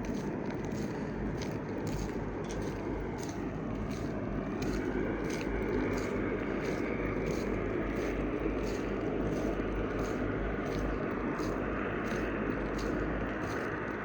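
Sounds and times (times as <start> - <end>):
turboprop airliner taxiing: 0.0 - 14.0
faint regular ticking: 0.2 - 14.0.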